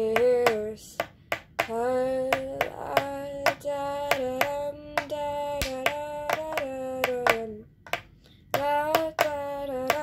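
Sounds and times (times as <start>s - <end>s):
young voice singing: 0.0s - 10.0s.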